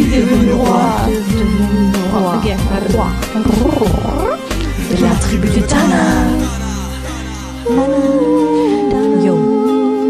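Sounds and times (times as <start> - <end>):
woman humming in harmony: 0.0 - 6.9, 7.6 - 10.0.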